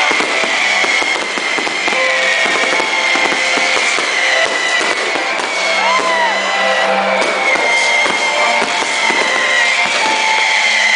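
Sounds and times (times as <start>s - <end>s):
fireworks crackling and popping: 0.0s - 10.9s
music playing: 0.0s - 10.9s.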